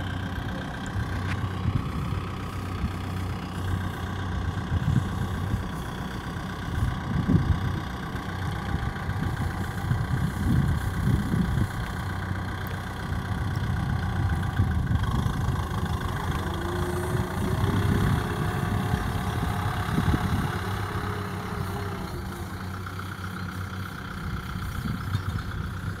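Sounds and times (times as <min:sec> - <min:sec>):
tractor diesel engine idling: 0:00.0 - 0:26.0
wind rumbling on microphone: 0:00.9 - 0:23.1, 0:23.9 - 0:26.0.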